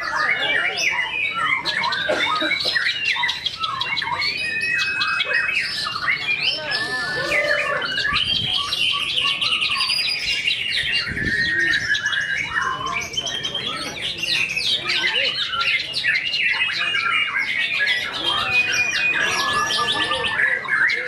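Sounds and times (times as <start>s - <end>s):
songbird singing varied whistles: 0.1s - 21.0s.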